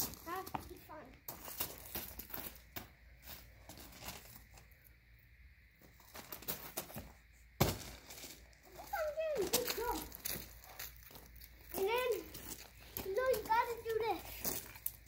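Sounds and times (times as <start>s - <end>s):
footsteps crunching on gravel: 0.0s - 4.7s, 5.8s - 15.0s.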